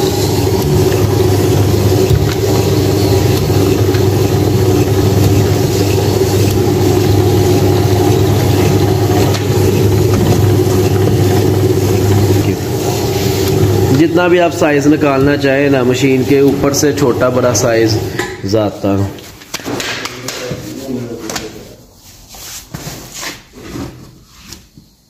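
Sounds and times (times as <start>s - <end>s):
dough rolling machine humming: 0.0s - 22.5s.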